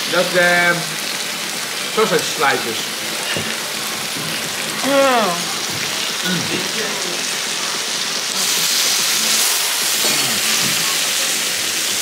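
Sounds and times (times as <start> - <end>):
food sizzling on grill plate: 0.0 - 12.0.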